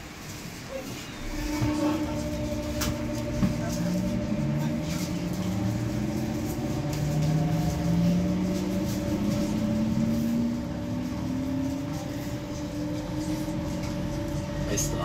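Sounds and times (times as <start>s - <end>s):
train motor whine: 0.0s - 15.0s
train rumble: 0.0s - 15.0s.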